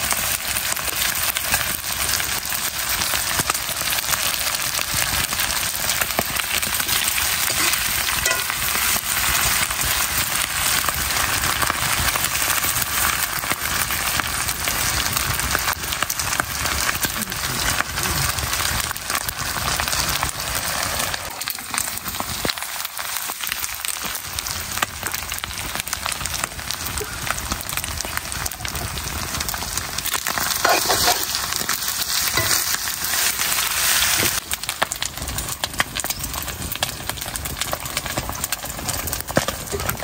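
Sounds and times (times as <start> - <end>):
chicken sizzling in a pan: 0.0 - 40.0.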